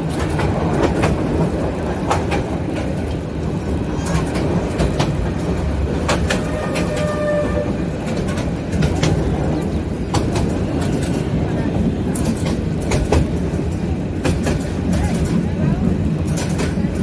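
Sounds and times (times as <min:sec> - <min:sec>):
train rumbling on rails: 0:00.0 - 0:17.0
wheels clacking: 0:00.0 - 0:17.0.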